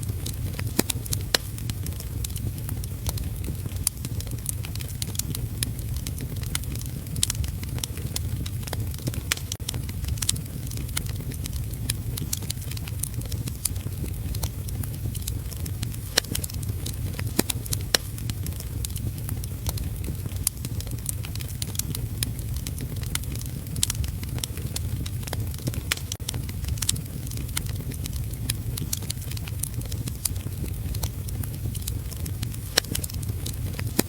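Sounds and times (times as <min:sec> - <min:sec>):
steady rain: 0:00.0 - 0:34.0
wood fire crackling and popping: 0:00.0 - 0:34.0.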